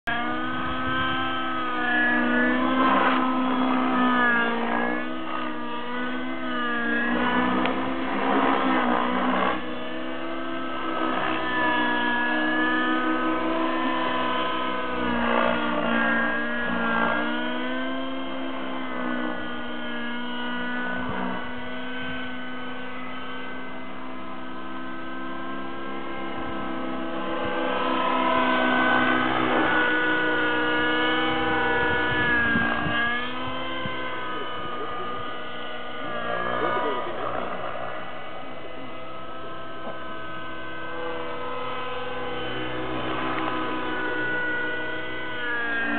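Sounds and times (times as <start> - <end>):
model helicopter whine: 0.0 - 45.9.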